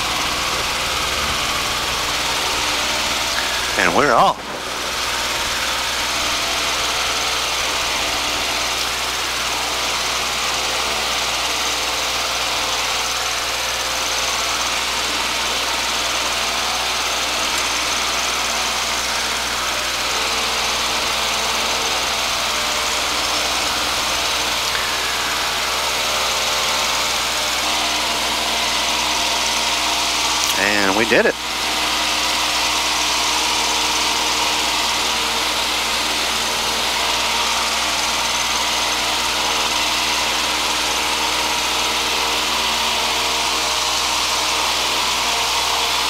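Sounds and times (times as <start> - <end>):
light aircraft engine at full power: 0.0 - 46.0.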